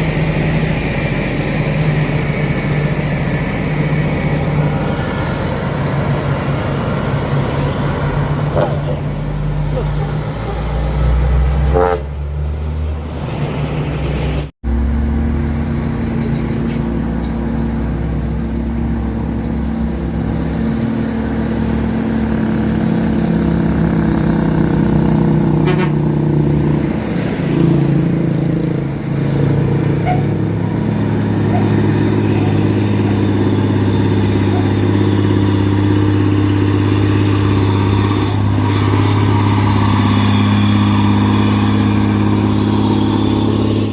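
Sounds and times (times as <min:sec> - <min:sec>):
heavy truck engine running: 0:00.0 - 0:43.9.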